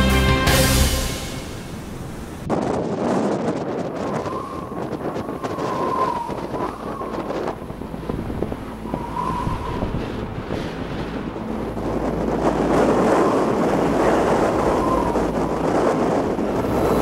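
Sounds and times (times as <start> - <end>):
wind buffeting microphone: 1.7 - 17.0.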